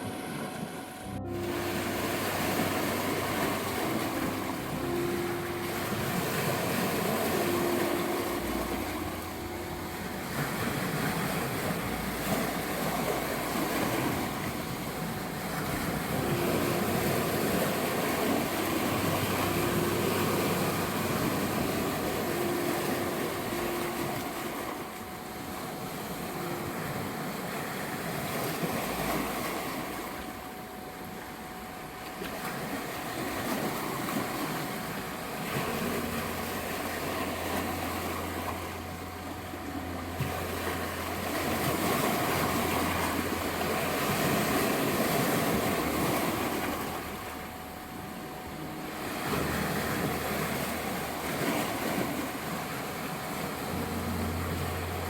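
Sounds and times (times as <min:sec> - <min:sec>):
low drone: 0:00.0 - 0:55.0
sea waves washing onto shore: 0:00.0 - 0:55.0
soft sustained notes: 0:00.0 - 0:55.0
steady sine tone: 0:00.0 - 0:55.0.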